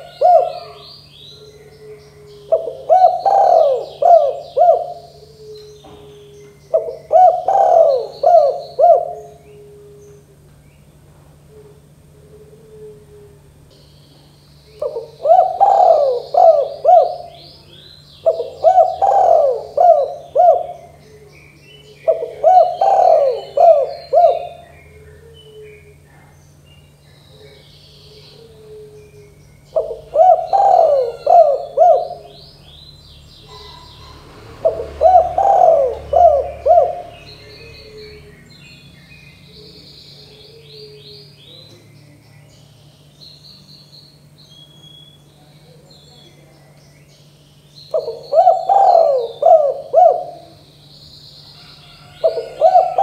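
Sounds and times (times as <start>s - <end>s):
small birds chirping: 0.0s - 12.2s, 13.3s - 53.0s
dove cooing: 0.0s - 13.8s, 14.8s - 26.3s, 26.9s - 38.5s, 39.4s - 42.2s, 47.9s - 50.8s, 51.5s - 53.0s.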